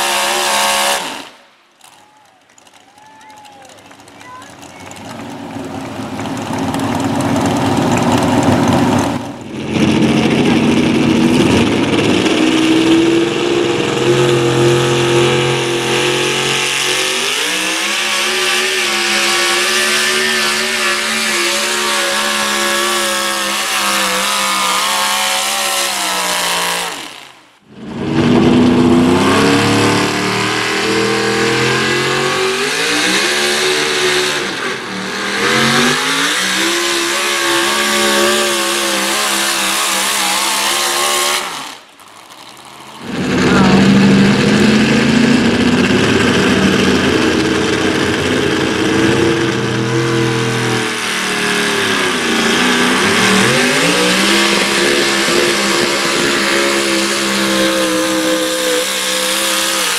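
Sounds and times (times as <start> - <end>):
truck engine at high revs: 0.0 - 59.9.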